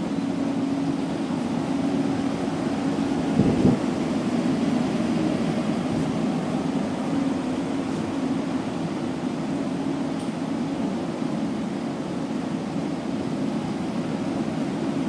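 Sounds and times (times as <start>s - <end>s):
subway station hum and rumble: 0.0s - 15.0s.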